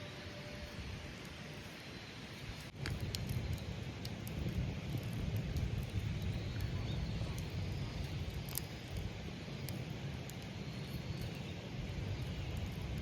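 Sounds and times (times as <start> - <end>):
campfire crackling: 0.0 - 13.0
low outdoor rumble: 0.0 - 13.0.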